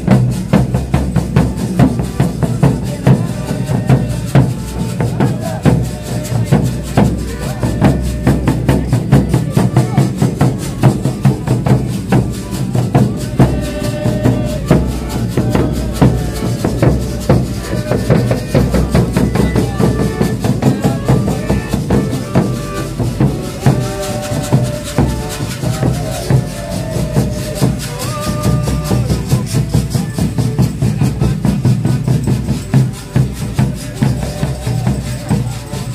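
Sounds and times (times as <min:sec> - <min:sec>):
bass drums beaten: 0:00.0 - 0:35.9
accordion: 0:01.5 - 0:35.9.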